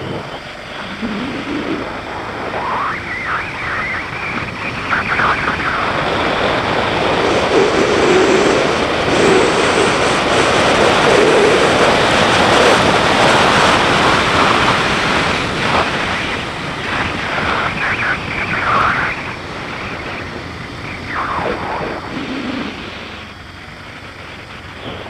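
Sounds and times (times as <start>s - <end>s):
faint motorcycle engine: 0.0s - 25.0s
wind rushing over microphone: 0.0s - 25.0s.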